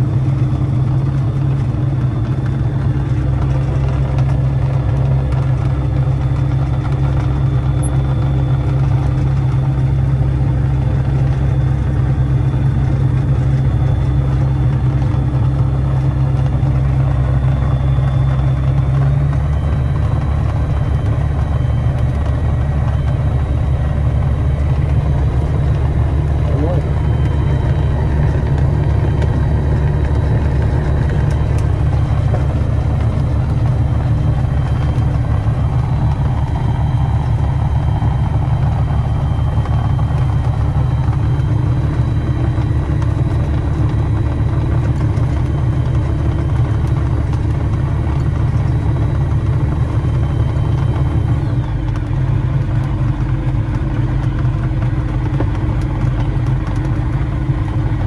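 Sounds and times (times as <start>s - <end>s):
propeller engine droning: 0.0s - 58.0s.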